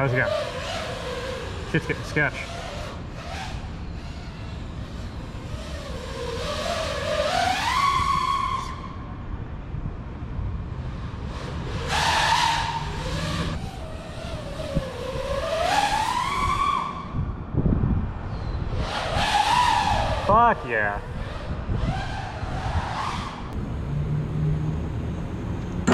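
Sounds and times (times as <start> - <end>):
quadcopter motors whining: 0.0 - 9.0, 10.8 - 17.4, 18.2 - 25.9.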